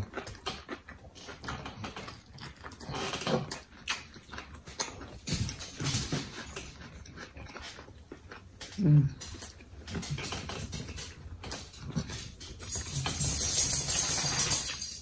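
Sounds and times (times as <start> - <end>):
chewing and mouth noises: 0.0 - 12.8.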